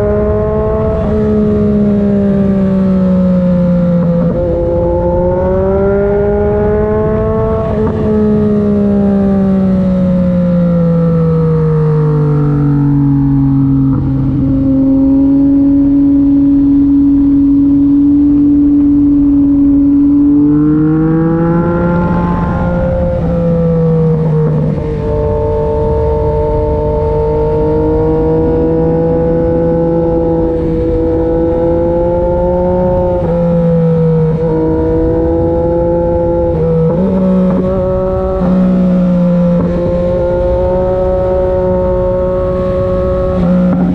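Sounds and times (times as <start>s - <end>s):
motorcycle engine at part throttle: 0.0s - 43.9s.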